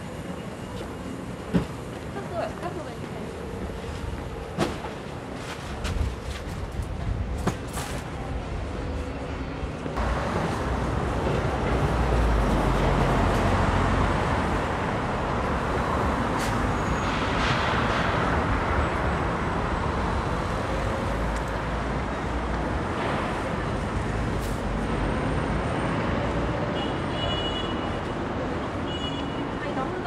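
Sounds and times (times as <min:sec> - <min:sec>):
vehicles passing with engine rumble: 0:00.1 - 0:30.0.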